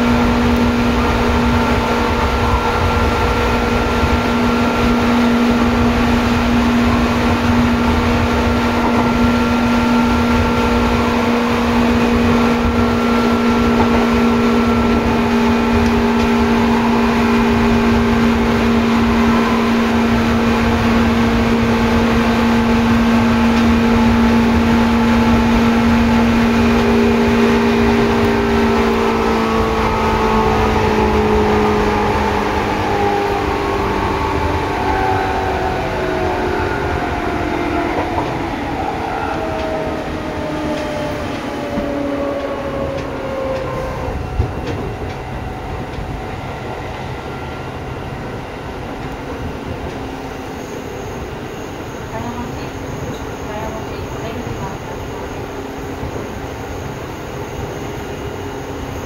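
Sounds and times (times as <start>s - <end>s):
electric train motor whine: 0.0s - 59.0s
wheels rumbling on rail: 0.0s - 59.0s.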